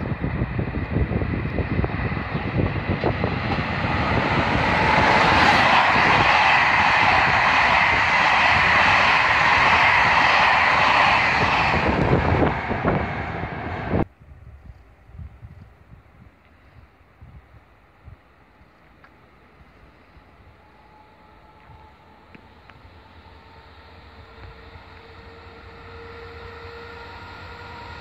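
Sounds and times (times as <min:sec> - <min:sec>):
train wheels roaring on rails: 0:00.0 - 0:14.1, 0:14.7 - 0:28.0.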